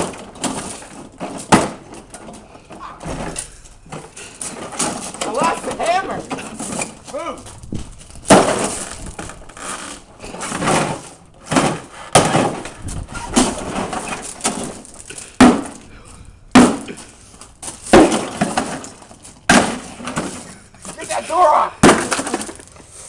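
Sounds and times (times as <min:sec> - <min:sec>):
heavy blows smashing refrigerator: 0:00.0 - 0:22.7
rattling and breaking: 0:00.0 - 0:22.8.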